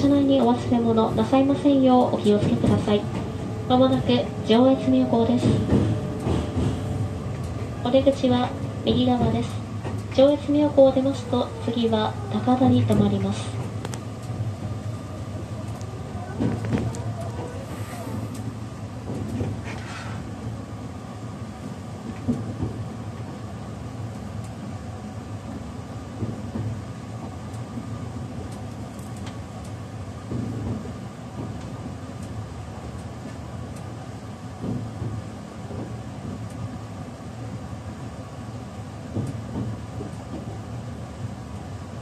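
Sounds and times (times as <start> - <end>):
train running hum and rumble: 0.0 - 42.0.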